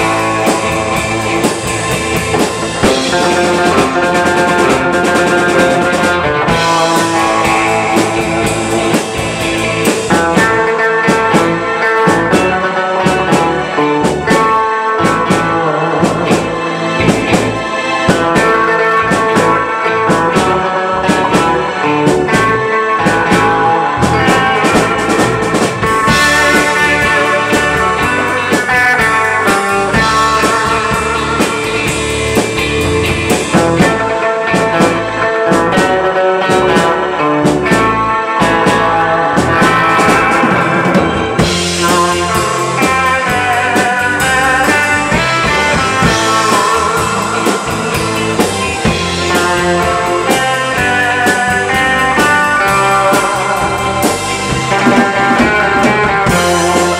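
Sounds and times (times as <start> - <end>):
drum kit steady beat: 0.0 - 56.9
electric guitars: 0.0 - 56.9.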